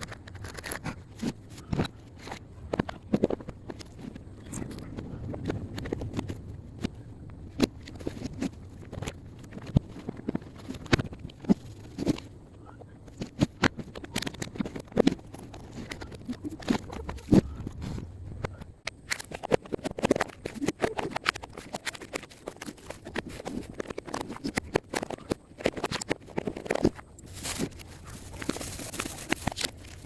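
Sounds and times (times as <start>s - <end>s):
clicks and knocks of handling: 0.0s - 30.0s
rustling: 0.0s - 30.0s.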